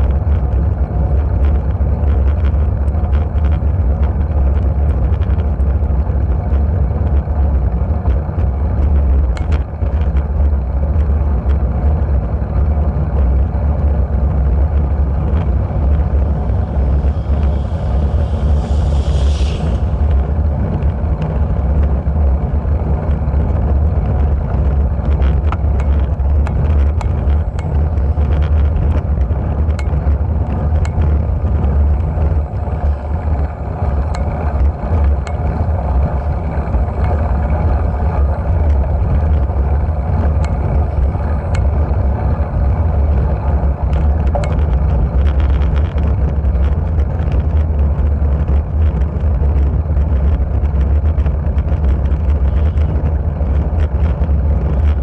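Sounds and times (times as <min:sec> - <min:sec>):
tyre noise on asphalt: 0:00.0 - 0:55.0
wind buffeting microphone: 0:00.0 - 0:55.0.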